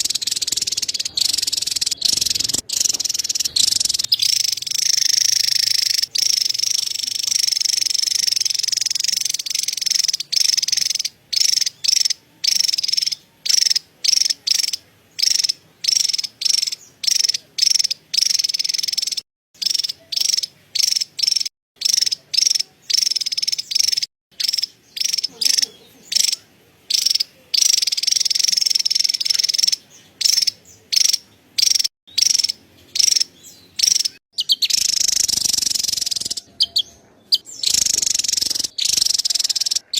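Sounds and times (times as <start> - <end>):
bird chattering call: 0.0 - 39.9.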